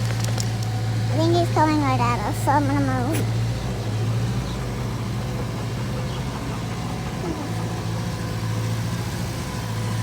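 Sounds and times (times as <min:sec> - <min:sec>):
vehicle engine idling low: 0:00.0 - 0:10.0.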